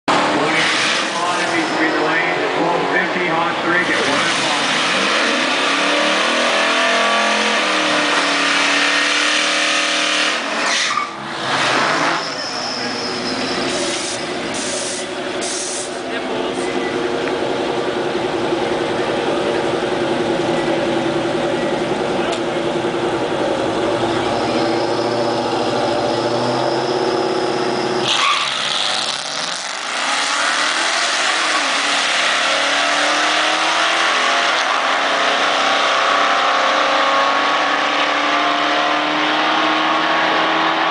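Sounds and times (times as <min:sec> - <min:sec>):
truck engine revving and accelerating: 0:00.1 - 0:40.9.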